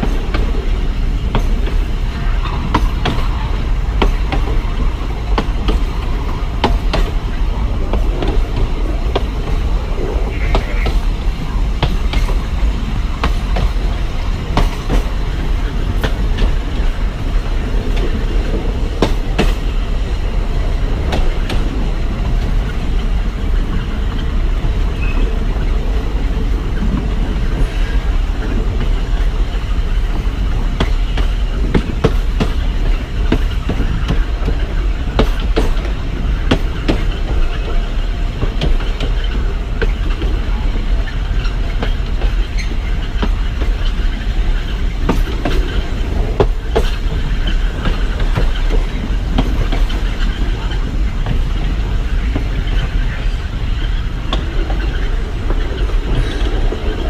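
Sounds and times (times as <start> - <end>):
train rumbling: 0.0 - 57.0
wheels clacking over rails: 0.0 - 57.0.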